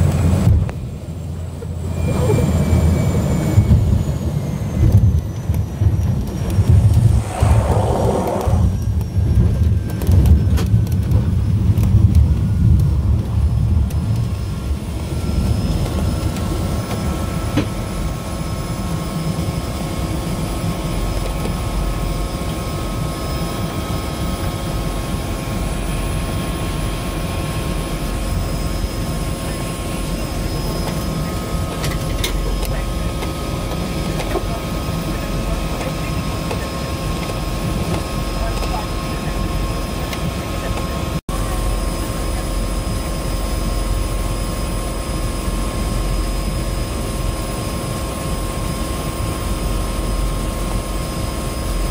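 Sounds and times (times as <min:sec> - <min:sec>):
floatplane engine and propeller drone: 0:00.0 - 0:51.9.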